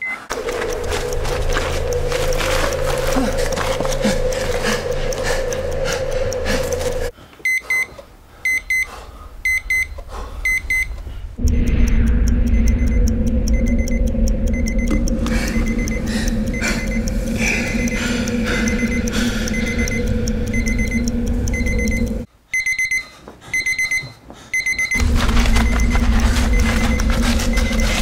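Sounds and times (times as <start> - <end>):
alarm clock beeping: 0.0 - 28.0
low steady drone: 0.3 - 7.1, 9.2 - 22.3, 25.0 - 28.0.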